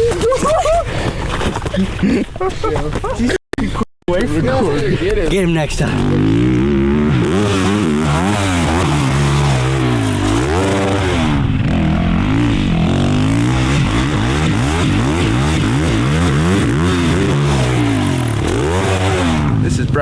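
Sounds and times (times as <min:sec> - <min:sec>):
motocross engines revving: 0:03.6 - 0:20.0.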